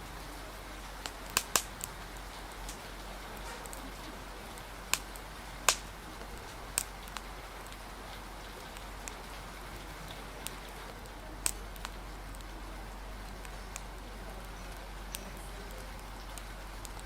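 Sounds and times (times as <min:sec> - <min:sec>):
rain hissing: 0:00.0 - 0:17.0
wood fire crackling pops: 0:00.0 - 0:17.0.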